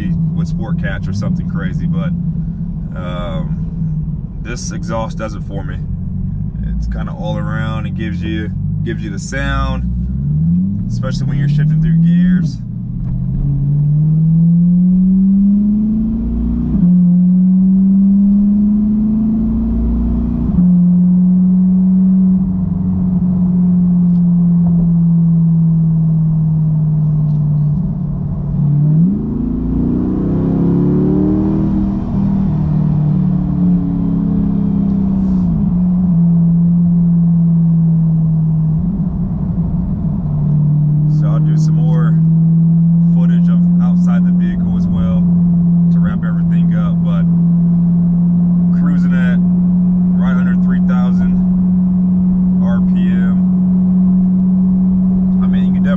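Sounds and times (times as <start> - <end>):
sports car engine revving while driving: 0.0 - 55.9.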